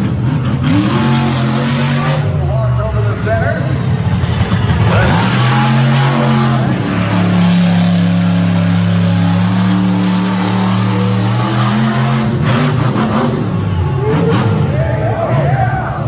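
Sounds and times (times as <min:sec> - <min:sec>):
truck engine revving loudly: 0:00.0 - 0:16.0.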